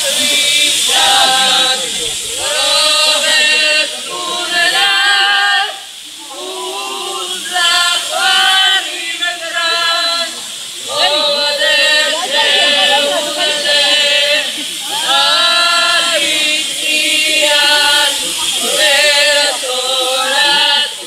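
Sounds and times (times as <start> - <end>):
group singing unaccompanied: 0.0 - 21.0
waterfall rushing: 0.0 - 21.0.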